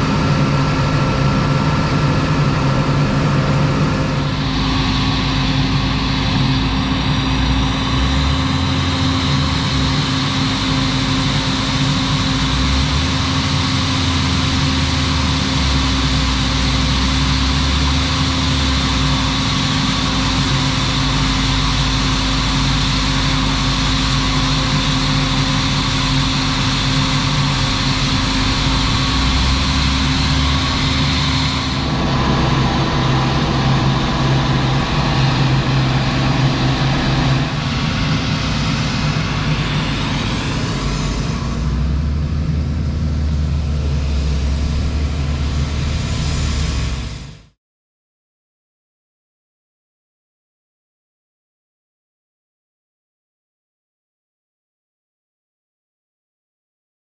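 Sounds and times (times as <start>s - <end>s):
constant high whine: 0.0s - 47.6s
low engine drone: 0.0s - 47.6s.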